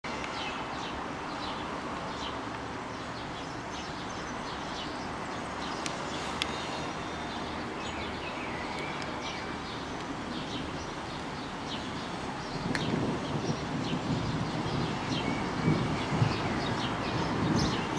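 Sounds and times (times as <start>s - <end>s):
low city rumble and wind: 0.1s - 17.9s
small birds chirping: 0.2s - 17.9s.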